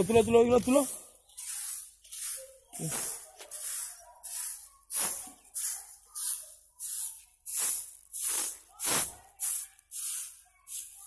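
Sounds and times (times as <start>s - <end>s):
broom sweeping sandy soil: 0.0s - 11.0s.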